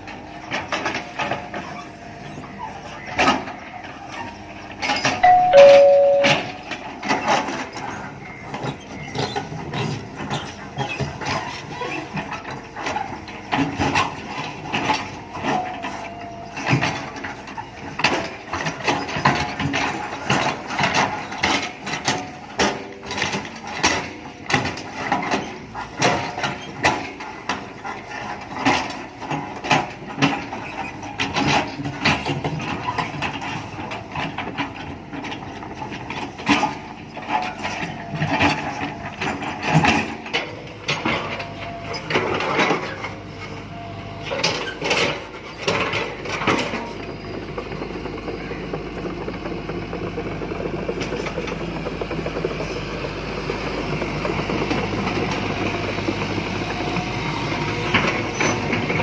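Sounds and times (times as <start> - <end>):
backhoe clanking and rattling: 0.0 - 59.0.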